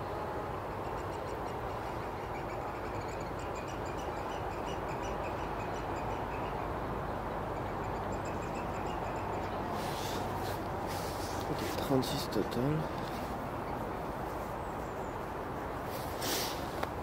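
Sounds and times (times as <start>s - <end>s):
birds piping calls: 0.0s - 16.7s.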